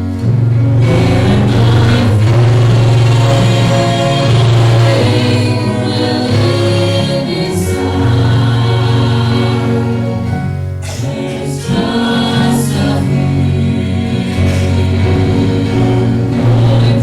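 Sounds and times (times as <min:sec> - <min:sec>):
musical accompaniment: 0:00.0 - 0:17.0
trio singing a hymn: 0:00.0 - 0:17.0.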